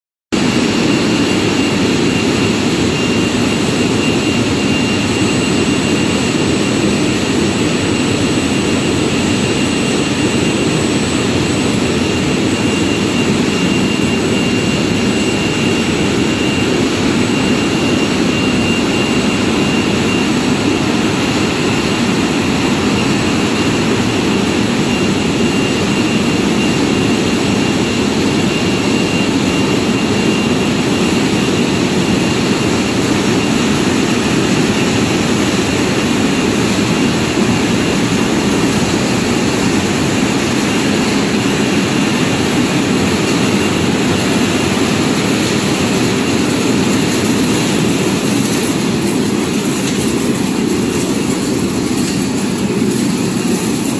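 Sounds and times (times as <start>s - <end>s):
high machine whine: 0.3s - 53.9s
machinery droning: 0.4s - 53.9s.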